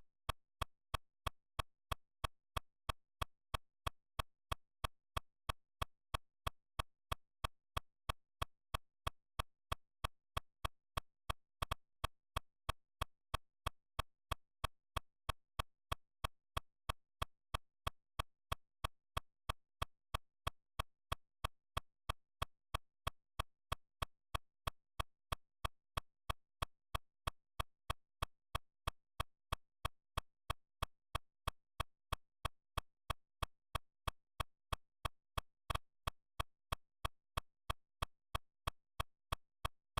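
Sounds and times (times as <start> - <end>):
steady ticking clicks: 0.0 - 39.9.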